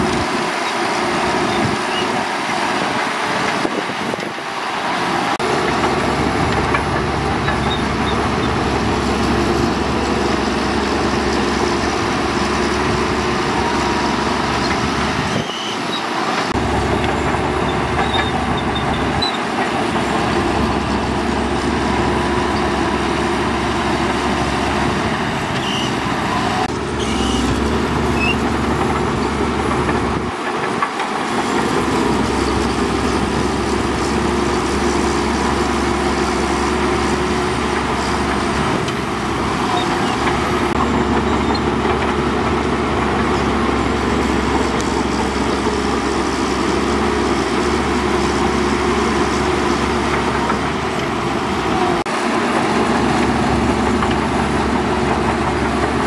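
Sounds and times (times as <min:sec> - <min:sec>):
bulldozer engine rumble: 0:00.0 - 0:56.0
track and machinery noise: 0:00.0 - 0:56.0.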